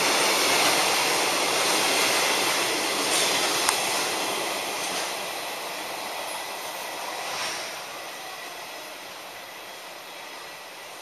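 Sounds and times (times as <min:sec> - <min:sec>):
freight train wagons on rails: 0:00.0 - 0:11.0.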